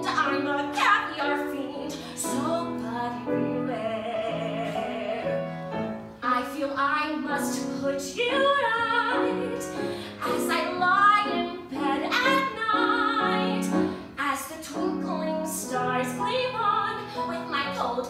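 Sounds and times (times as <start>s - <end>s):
woman singing: 0.0s - 5.6s, 6.2s - 18.0s
piano accompaniment: 0.0s - 18.0s.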